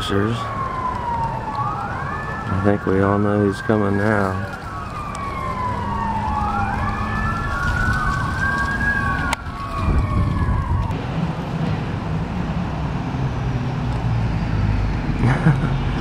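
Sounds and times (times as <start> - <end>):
fire engine sirens wailing: 0.0 - 16.0.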